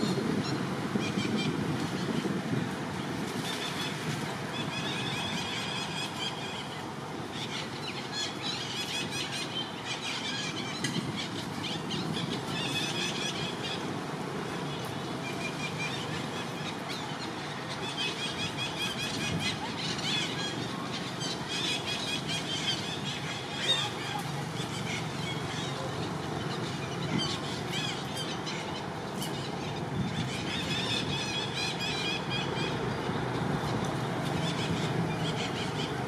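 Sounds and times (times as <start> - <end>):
outdoor background hiss: 0.0 - 36.0.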